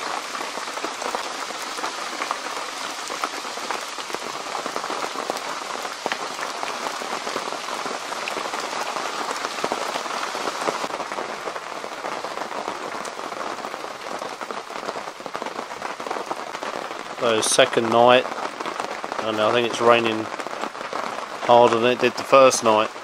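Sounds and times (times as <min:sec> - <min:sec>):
heavy rain on tent canvas: 0:00.0 - 0:23.0.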